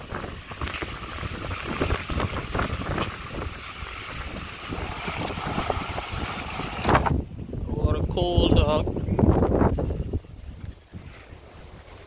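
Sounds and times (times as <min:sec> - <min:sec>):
sea water sloshing and splashing: 0:00.0 - 0:07.3, 0:09.5 - 0:12.0
wind buffeting microphone: 0:00.0 - 0:12.0.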